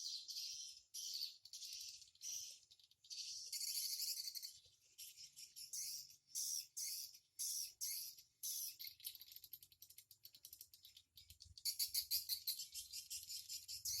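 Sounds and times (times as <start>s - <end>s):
swiftlets chirping and twittering: 0.0s - 14.0s.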